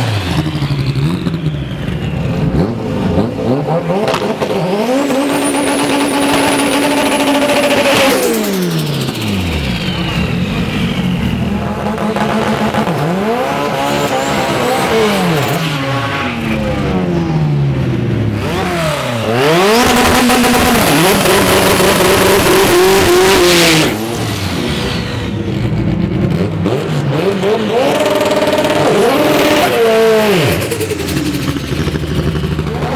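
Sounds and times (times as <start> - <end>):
drag car engine revving: 0.0 - 32.9.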